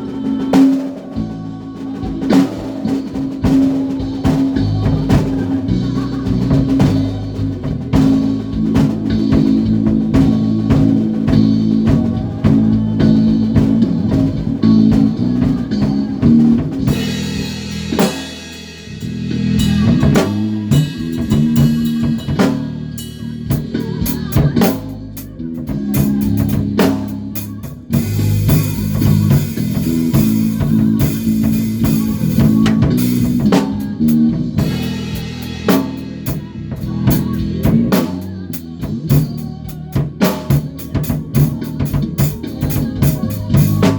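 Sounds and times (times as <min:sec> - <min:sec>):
bass guitar: 0:00.0 - 0:43.9
drum kit: 0:00.0 - 0:43.9
guitar: 0:00.0 - 0:43.9.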